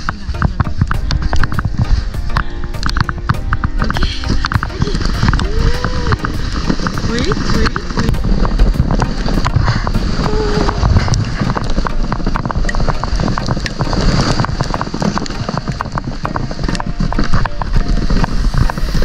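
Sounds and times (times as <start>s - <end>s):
sled scraping over snow: 0.0s - 19.0s
wind buffeting microphone: 0.0s - 19.0s.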